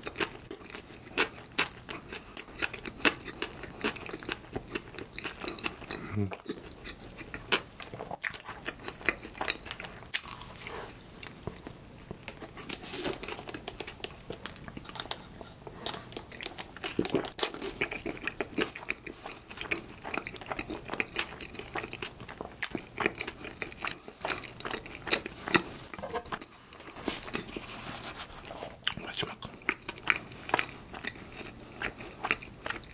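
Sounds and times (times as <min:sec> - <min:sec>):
chewing bread buns: 0:00.0 - 0:32.9.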